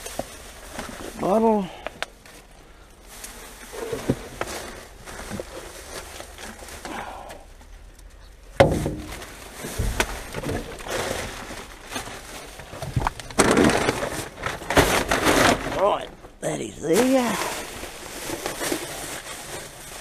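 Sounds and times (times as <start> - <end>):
plastic bags rustling and crinkling: 0.0 - 20.0.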